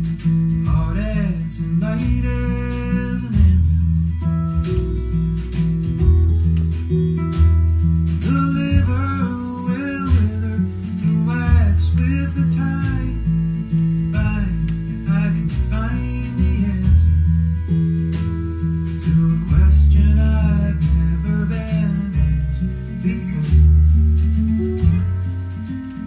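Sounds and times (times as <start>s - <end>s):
deep held bass notes: 0.0s - 26.0s
fingerpicked acoustic guitar: 0.0s - 26.0s.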